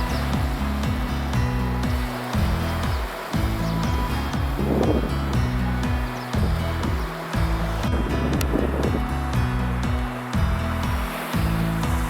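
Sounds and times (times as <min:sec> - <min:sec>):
background music with sliding bass: 0:00.0 - 0:12.0.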